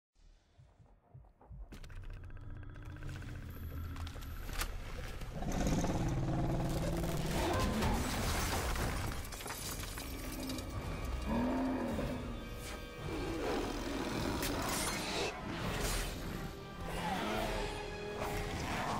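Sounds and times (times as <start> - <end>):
action film effects and score: 0.2 - 18.9.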